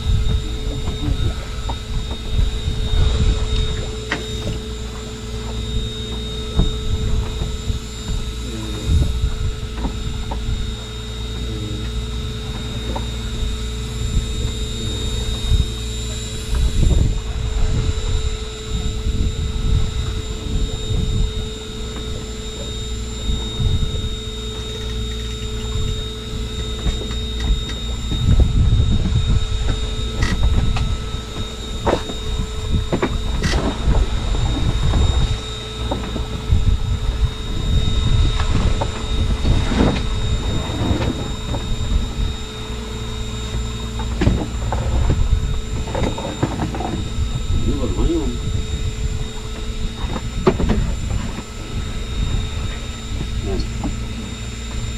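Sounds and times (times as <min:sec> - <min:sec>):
boat engine humming: 0:00.0 - 0:54.9
low rumble: 0:00.0 - 0:54.9.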